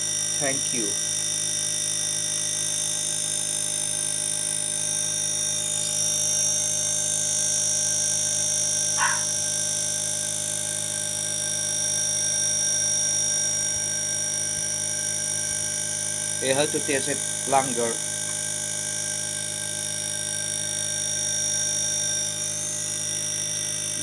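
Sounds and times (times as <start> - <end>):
air conditioner humming and whining: 4.1 - 24.0.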